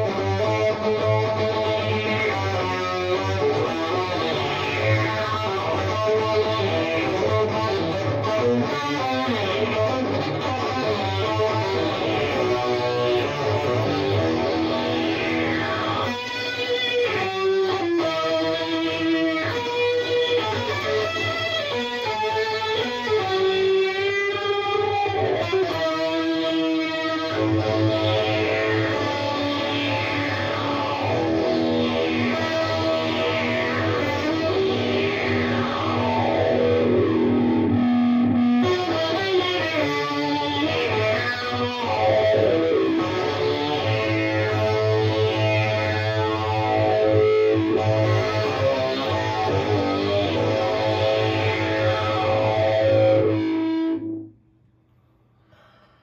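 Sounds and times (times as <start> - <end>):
synth-like electric guitar notes: 0.0 - 54.3.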